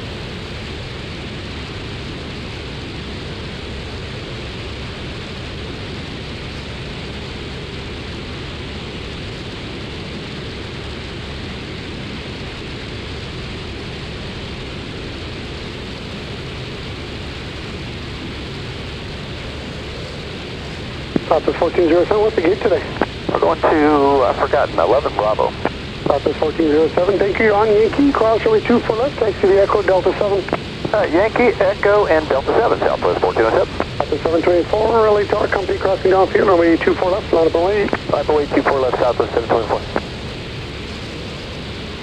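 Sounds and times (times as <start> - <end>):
airplane cabin engine drone: 0.0 - 42.0.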